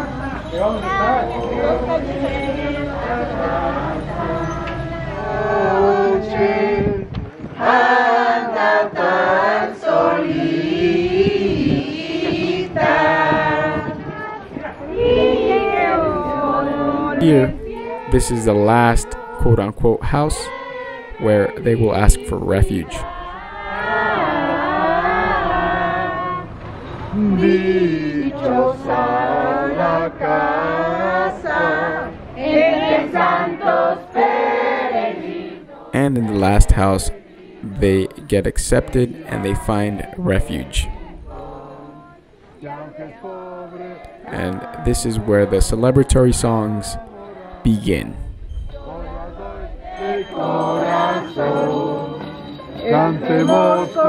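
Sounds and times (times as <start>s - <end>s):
group of people singing: 0.0s - 54.0s.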